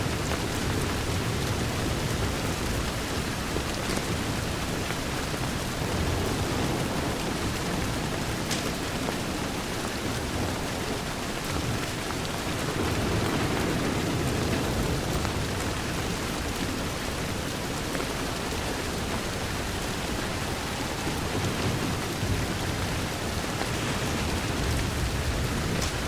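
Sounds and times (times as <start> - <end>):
distant thunder rumble: 0.0 - 26.0
heavy rain on a window: 0.0 - 26.0.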